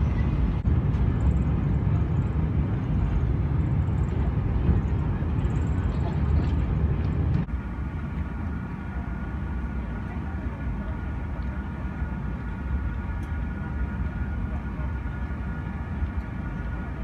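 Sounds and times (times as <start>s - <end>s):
airliner cabin rumble: 0.0s - 17.0s
jet engines: 0.0s - 17.0s.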